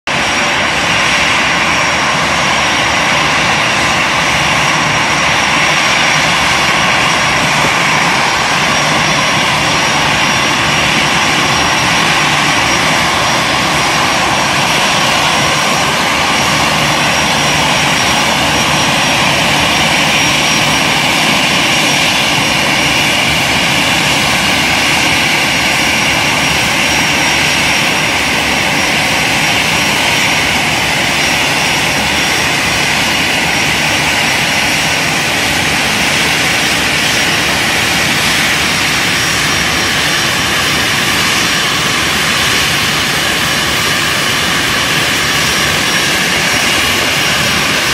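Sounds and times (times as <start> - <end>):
jet engines at taxi power: 0.0 - 47.9.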